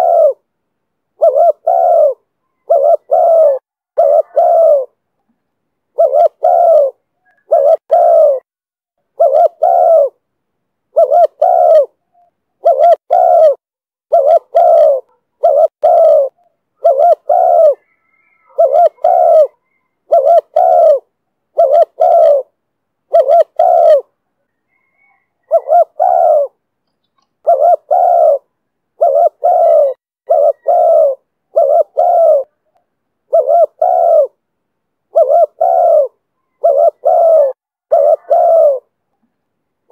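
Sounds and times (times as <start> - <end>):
dove cooing: 0.0 - 0.5, 1.2 - 5.0, 5.9 - 8.5, 9.1 - 10.2, 10.9 - 34.4, 35.1 - 39.0.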